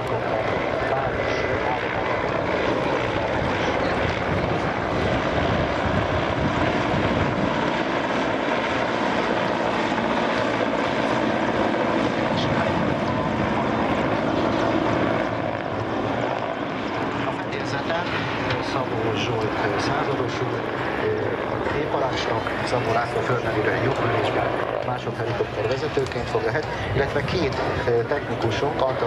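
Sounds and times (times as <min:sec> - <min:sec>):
helicopter flying low past: 0:00.0 - 0:29.0.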